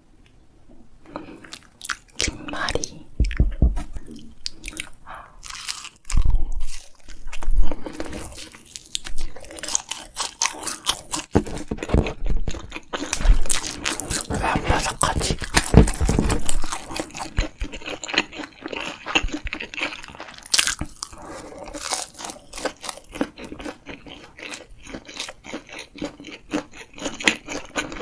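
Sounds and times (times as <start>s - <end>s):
crunchy chewing: 1.1s - 28.0s.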